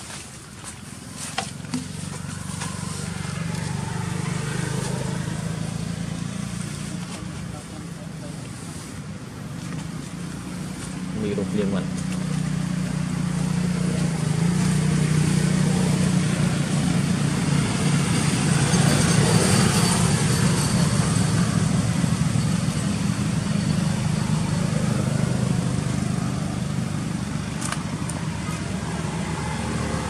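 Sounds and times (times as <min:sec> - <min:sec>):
passing vehicle engine drone: 0:01.7 - 0:09.5, 0:10.4 - 0:30.0.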